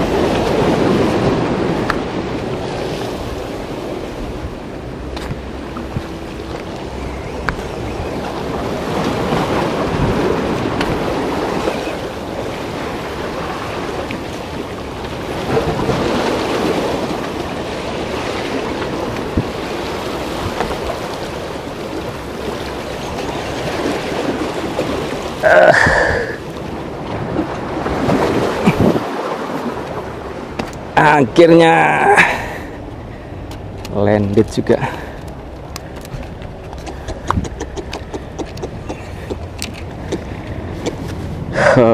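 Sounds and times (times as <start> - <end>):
wind buffeting microphone: 0.0 - 31.4, 32.0 - 41.9
waves washing against rocks: 0.0 - 41.9.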